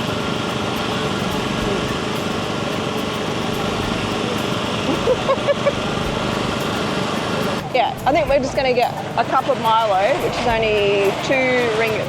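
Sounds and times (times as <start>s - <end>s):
small engine droning: 0.0s - 12.0s.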